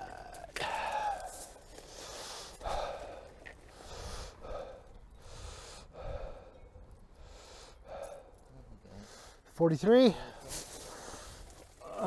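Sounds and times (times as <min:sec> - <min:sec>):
person breathing heavily: 0:00.2 - 0:09.4, 0:10.1 - 0:12.0.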